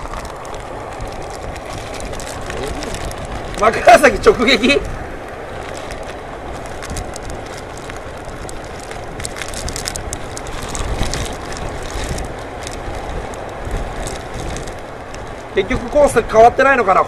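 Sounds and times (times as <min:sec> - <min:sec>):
rain crackling on microphone: 0:00.0 - 0:17.0
wind buffeting microphone: 0:00.0 - 0:17.0.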